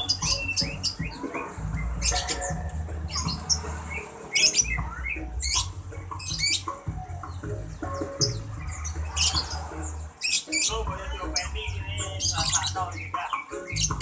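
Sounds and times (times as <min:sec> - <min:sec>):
songbirds chirping and squawking: 0:00.0 - 0:14.0.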